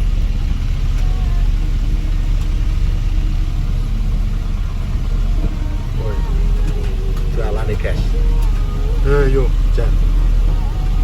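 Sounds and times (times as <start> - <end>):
diesel truck engine rumble: 0.0 - 11.0.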